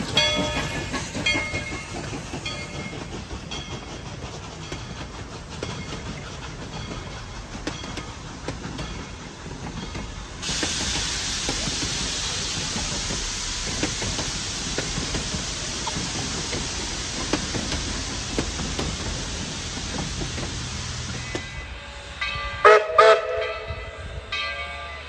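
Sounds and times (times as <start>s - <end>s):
steam hissing: 0.0s - 22.2s.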